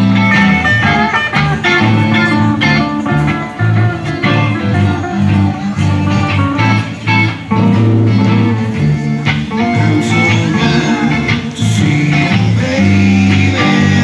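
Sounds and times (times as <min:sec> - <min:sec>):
electric guitars playing rock: 0:00.0 - 0:14.0
low bass line: 0:00.0 - 0:14.0.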